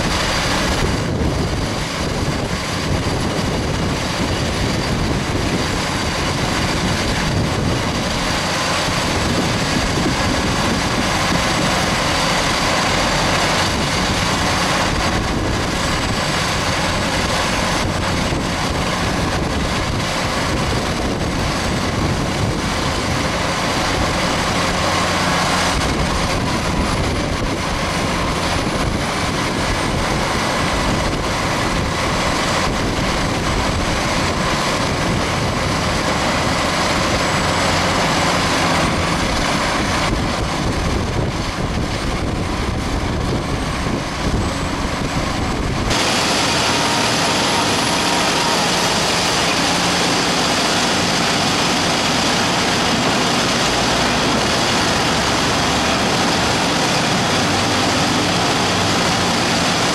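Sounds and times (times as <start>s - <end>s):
conveyor running: 0.0s - 59.9s
tractor engine running: 0.0s - 59.9s.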